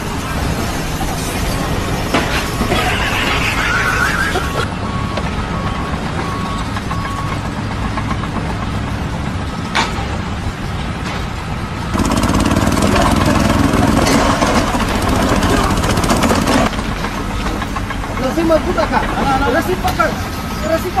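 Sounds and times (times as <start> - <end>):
stone crusher engine rattling: 0.0 - 21.0.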